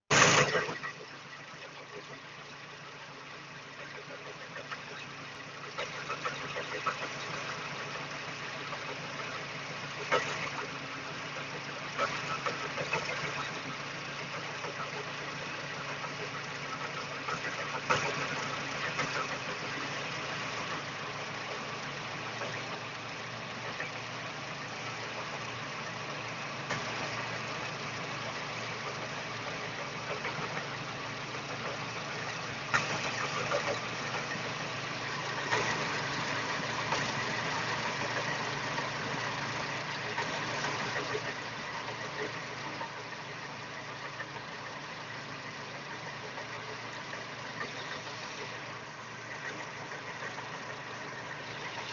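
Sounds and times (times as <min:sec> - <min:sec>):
car engine idling: 0:00.0 - 0:51.9
engine knocking: 0:00.0 - 0:51.9.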